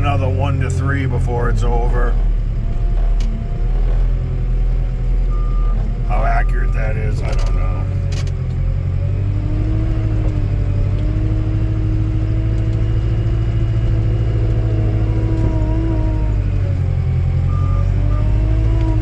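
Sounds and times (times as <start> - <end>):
skid steer engine rumbling: 0.0 - 19.0.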